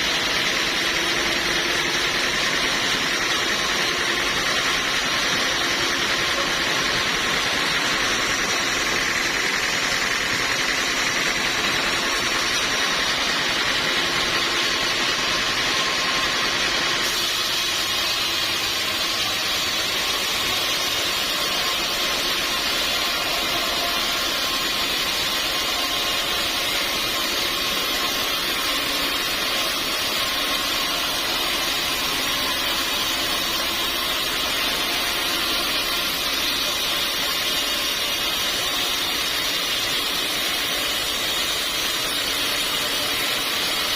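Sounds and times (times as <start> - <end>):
sawmill saw running: 0.0 - 43.9.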